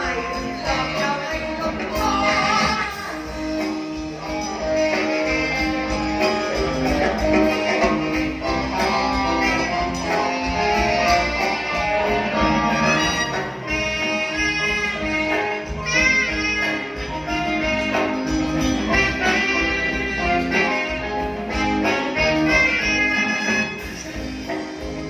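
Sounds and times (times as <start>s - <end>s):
live band with strings: 0.0s - 25.0s.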